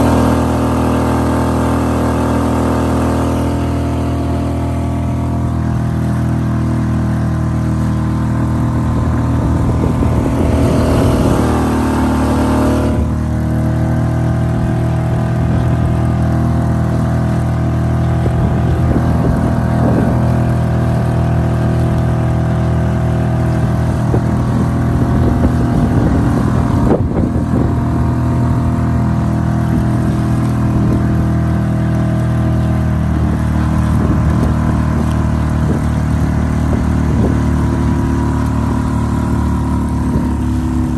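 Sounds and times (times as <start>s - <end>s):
outboard motor running: 0.0s - 40.9s
water rushing: 0.0s - 40.9s
wind noise: 0.0s - 40.9s.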